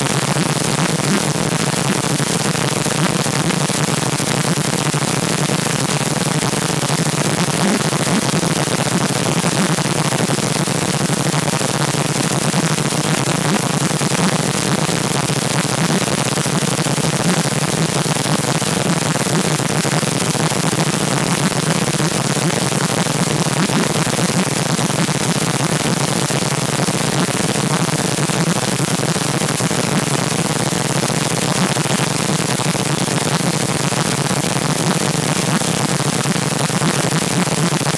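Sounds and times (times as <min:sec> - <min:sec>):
loud static hiss: 0:00.0 - 0:37.9.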